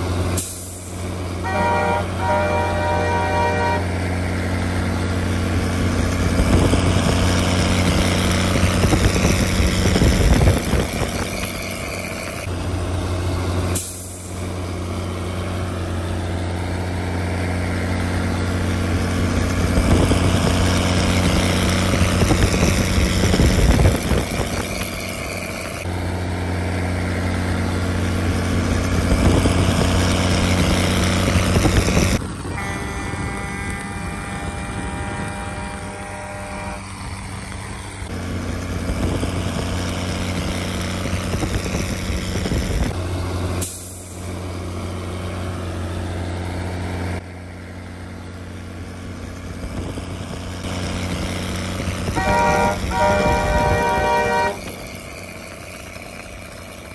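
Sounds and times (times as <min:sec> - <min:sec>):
diesel engine exhaust drone: 0:00.0 - 0:56.9.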